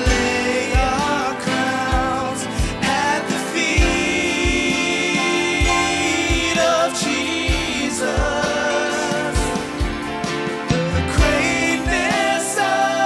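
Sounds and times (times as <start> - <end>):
voices singing: 0.0 - 13.0
worship band playing: 0.0 - 13.0.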